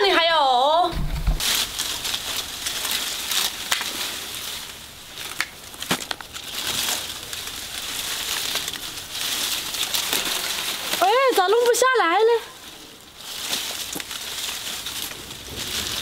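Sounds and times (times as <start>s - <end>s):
leaves and twigs rustling: 0.0s - 16.0s
twigs snapping: 1.3s - 11.8s, 12.8s - 16.0s.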